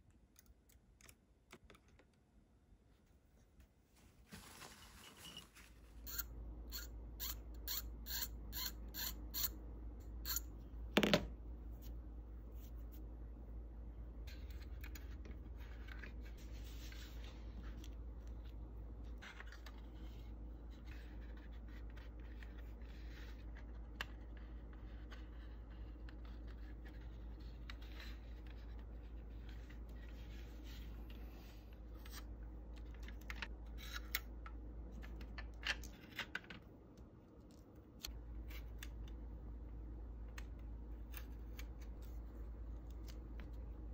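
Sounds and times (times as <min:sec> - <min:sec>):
steady low hum: 0:02.5 - 0:43.9.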